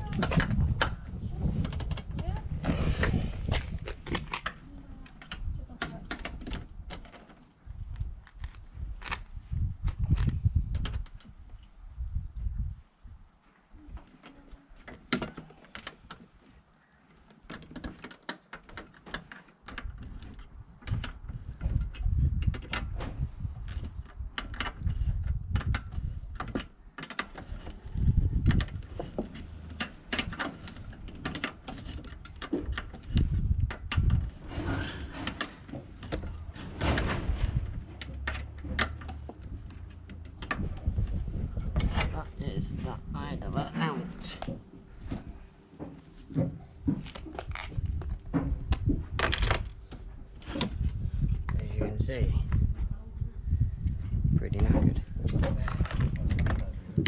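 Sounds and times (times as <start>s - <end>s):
low rumbling handling noise: 0.0s - 13.2s, 19.5s - 57.0s.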